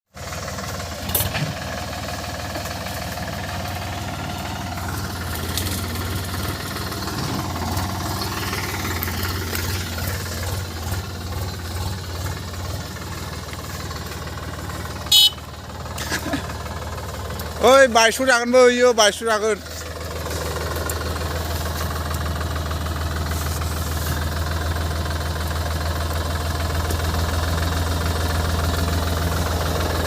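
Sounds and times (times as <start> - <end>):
tractor diesel engine running: 0.1 - 30.0.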